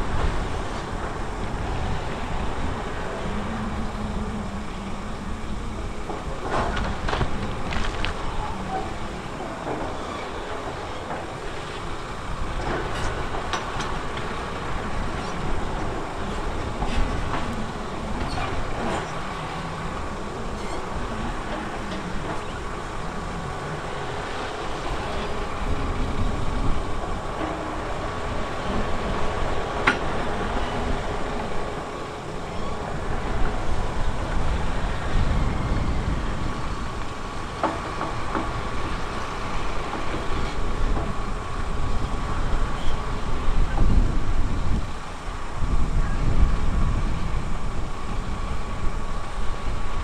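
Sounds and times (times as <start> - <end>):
faint steady whine: 0.0 - 50.0
heavy machinery diesel engine: 0.0 - 50.0.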